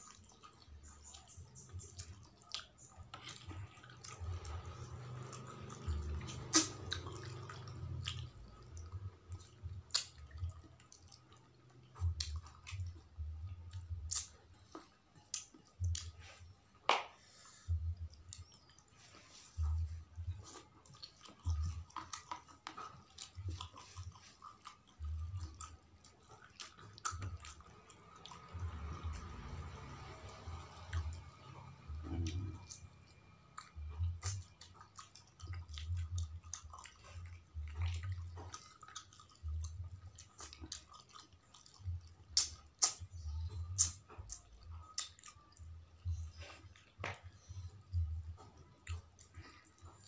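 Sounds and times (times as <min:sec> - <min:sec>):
people chewing: 0:00.0 - 0:50.0.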